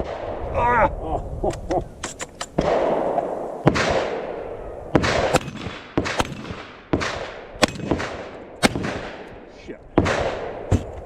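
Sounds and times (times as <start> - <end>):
shotgun shots reverberating: 2.1 - 11.0.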